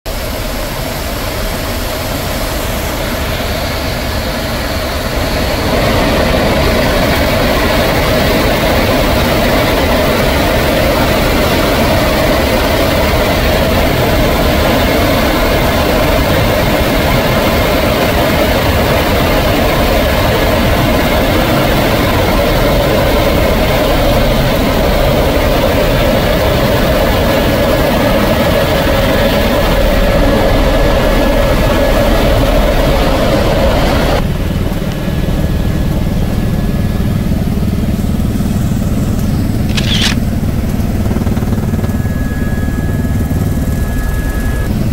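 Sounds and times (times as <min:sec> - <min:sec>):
helicopter turbine and rotor: 0:00.1 - 0:44.9.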